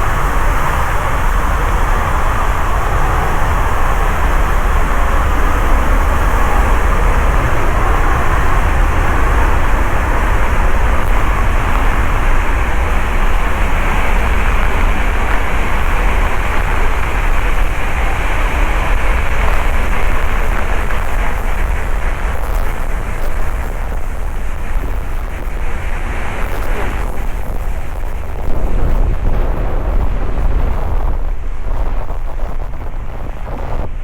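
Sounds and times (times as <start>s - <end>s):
waterfall roaring: 0.0s - 29.0s
wind buffeting microphone: 0.0s - 34.0s.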